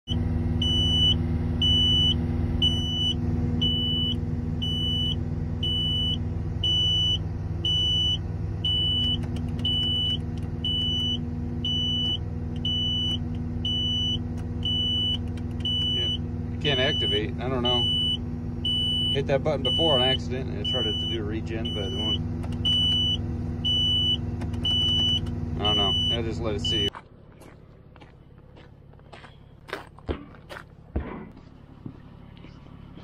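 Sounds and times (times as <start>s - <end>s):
diesel engine running: 0.0s - 33.0s
warning alarm beeping: 0.1s - 26.9s.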